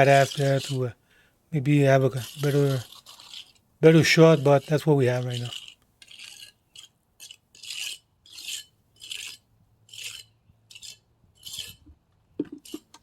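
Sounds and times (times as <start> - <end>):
trowel scraping cement on concrete: 0.0 - 0.9, 1.6 - 13.0.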